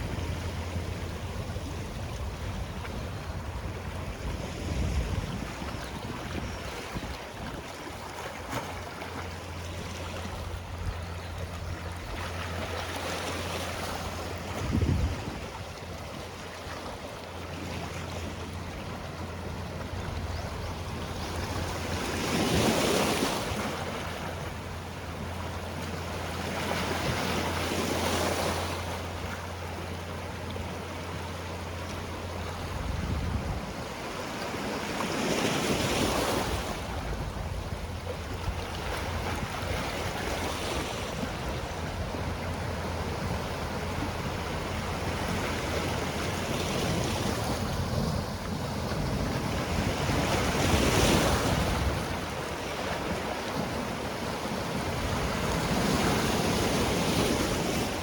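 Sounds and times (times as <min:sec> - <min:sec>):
waves washing onto rocky shore: 0:00.0 - 0:58.0.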